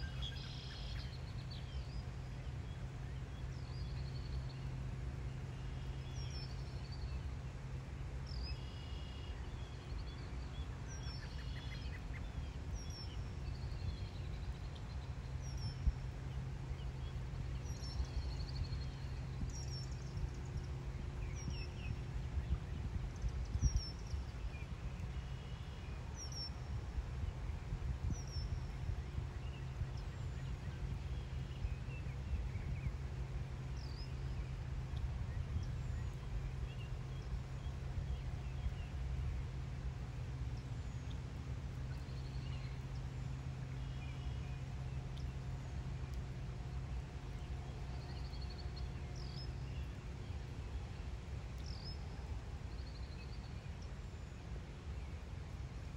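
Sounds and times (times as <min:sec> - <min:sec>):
low steady rumble: 0:00.0 - 0:55.9
rain patter on water: 0:00.0 - 0:55.9.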